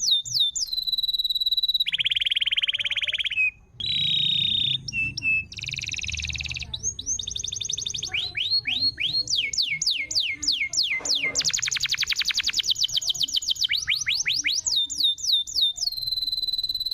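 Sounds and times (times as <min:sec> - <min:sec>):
canary singing: 0:00.0 - 0:16.9.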